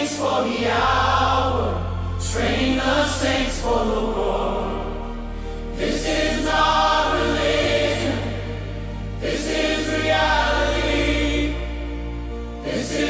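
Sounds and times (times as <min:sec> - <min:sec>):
gospel choir singing: 0:00.0 - 0:13.0
sustained low bass notes: 0:00.0 - 0:13.0.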